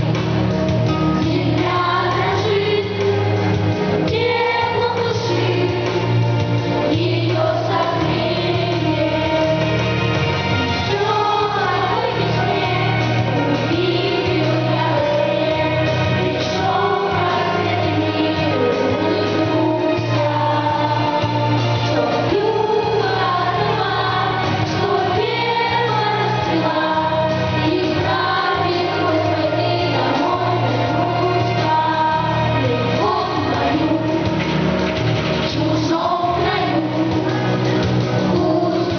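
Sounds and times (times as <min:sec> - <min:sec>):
instrumental backing track: 0:00.0 - 0:38.9
voices singing together: 0:01.1 - 0:38.9.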